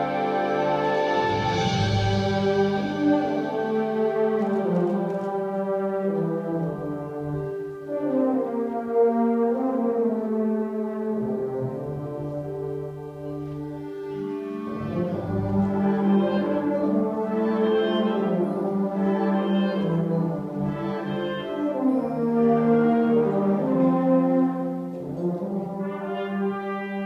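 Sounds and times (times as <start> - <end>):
brass and french horns chords: 0.0 - 27.0
concert wind band playing: 0.0 - 27.0.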